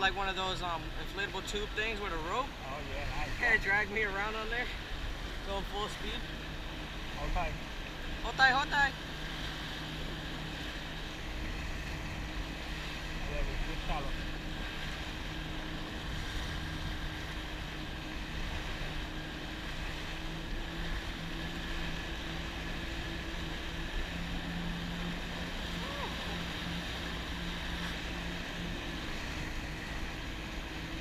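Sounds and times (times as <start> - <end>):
churning water: 0.0 - 31.0
jet ski engine running: 0.0 - 31.0.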